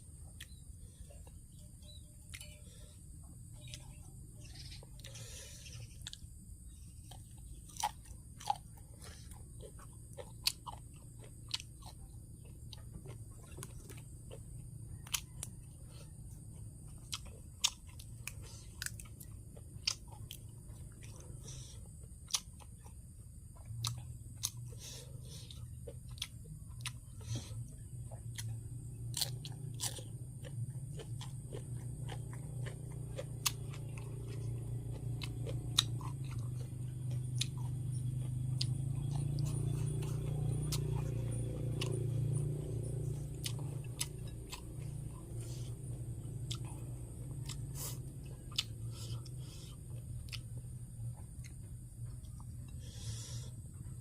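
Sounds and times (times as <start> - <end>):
low steady hum: 0.0 - 54.0
person chewing and crunching food: 0.0 - 54.0.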